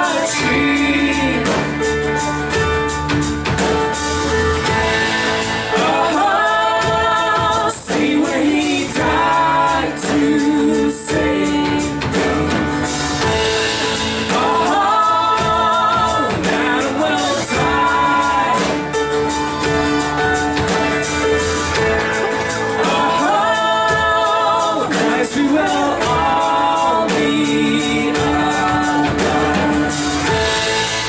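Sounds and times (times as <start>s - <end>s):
people singing: 0.0s - 2.3s, 4.9s - 31.0s
church band playing worship music: 0.0s - 31.0s.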